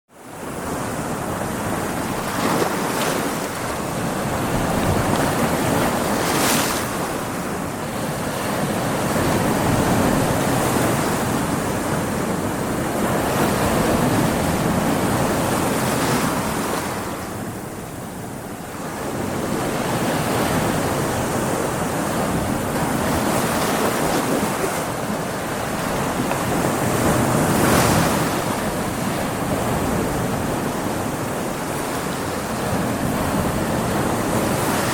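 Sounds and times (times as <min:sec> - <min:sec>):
heavy surf: 0:00.1 - 0:34.9
wind: 0:00.1 - 0:34.9.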